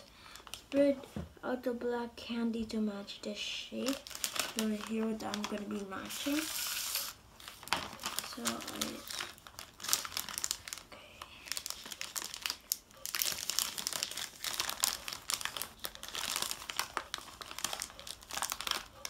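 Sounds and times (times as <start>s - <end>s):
plastic candy packet crinkling: 0.0s - 0.8s, 3.6s - 19.0s.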